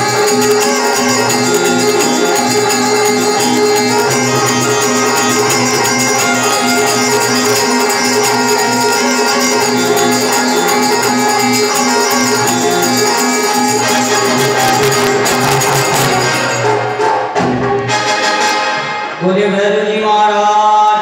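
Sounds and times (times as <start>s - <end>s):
jingling percussion: 0.0s - 17.6s
hand drum: 0.0s - 18.0s
harmonium and keyboard notes: 0.0s - 19.3s.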